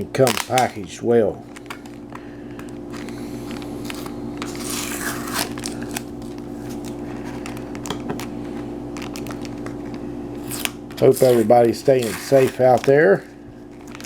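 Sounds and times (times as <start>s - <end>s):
packaging rustling and crinkling: 0.0s - 14.0s
steady low hum: 0.0s - 14.0s.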